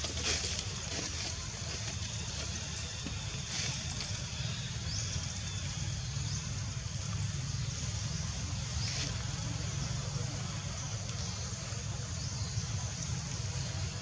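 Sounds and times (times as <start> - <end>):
constant low rumble: 0.0 - 14.0.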